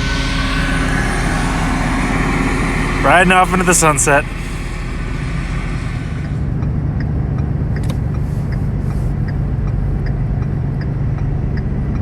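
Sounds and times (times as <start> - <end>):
road rumble: 0.0 - 12.0
vehicle engine humming: 0.0 - 12.0.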